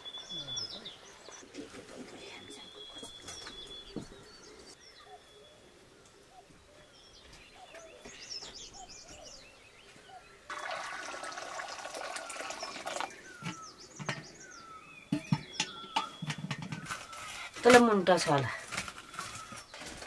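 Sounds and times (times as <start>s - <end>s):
small birds chirping: 0.0s - 10.5s, 11.8s - 20.0s.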